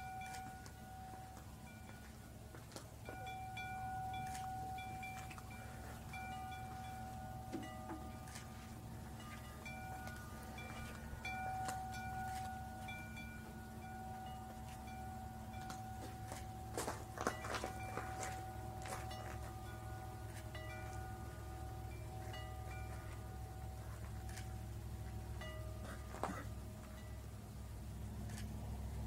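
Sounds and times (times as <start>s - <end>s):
metal tube wind chimes ringing: 0.0s - 29.0s
steady low hum: 0.0s - 29.0s.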